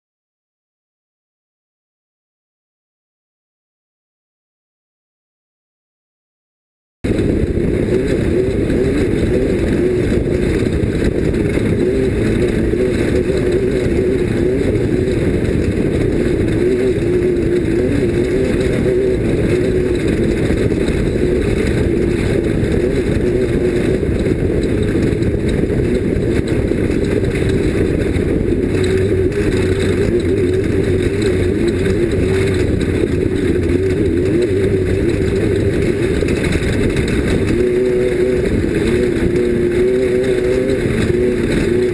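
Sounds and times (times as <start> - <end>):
vehicle engine running hard: 7.0 - 41.9.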